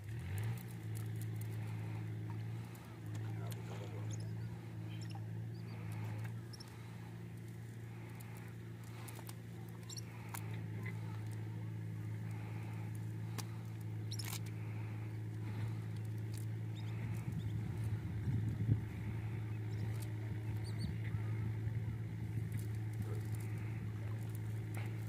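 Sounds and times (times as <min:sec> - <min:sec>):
motor humming: 0:00.0 - 0:25.0.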